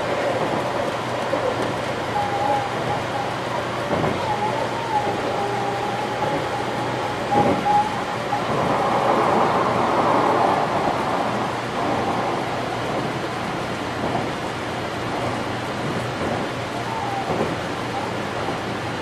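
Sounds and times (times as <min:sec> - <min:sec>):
train running noise from cab: 0:00.0 - 0:19.0.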